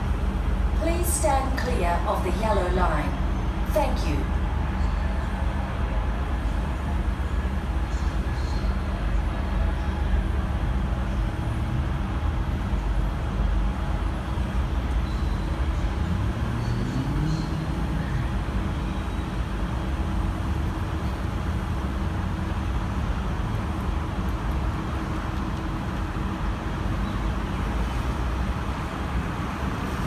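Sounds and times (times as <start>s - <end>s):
locomotive diesel engine droning: 0.0s - 30.0s.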